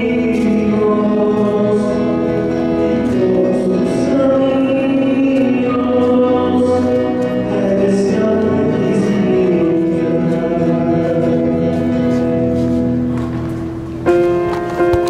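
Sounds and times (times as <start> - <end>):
song with held sung notes: 0.0 - 15.0.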